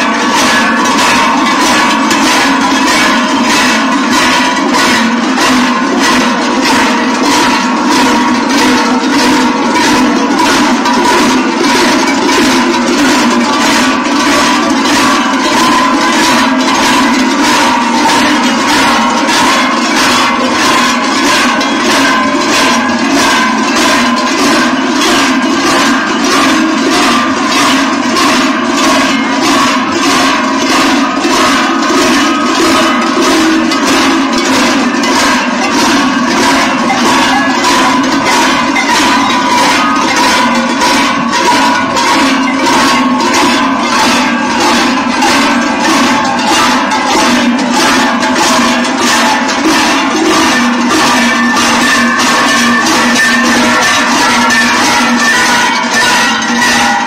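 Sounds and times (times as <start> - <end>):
large cowbells clanging: 0.0 - 57.0.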